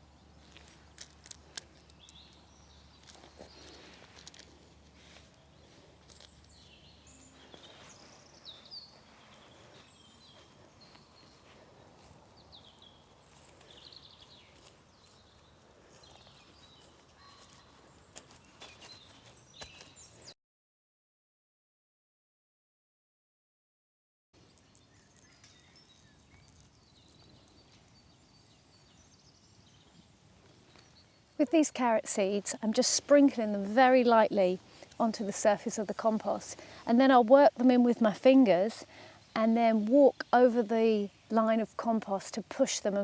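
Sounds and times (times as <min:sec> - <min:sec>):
small birds chirping and warbling: 0:00.0 - 0:20.3, 0:24.4 - 0:43.0.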